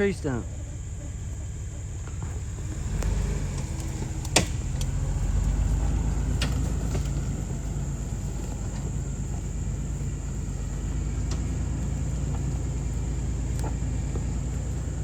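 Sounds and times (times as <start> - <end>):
vehicle engine running at low speed: 0.0 - 15.0.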